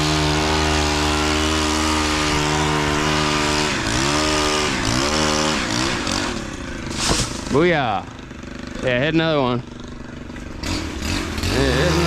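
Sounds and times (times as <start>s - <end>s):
chainsaw running at high revs: 0.0s - 12.0s.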